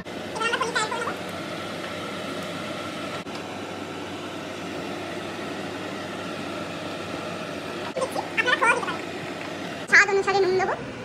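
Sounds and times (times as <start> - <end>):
kitchen hum and hiss: 0.0 - 11.0.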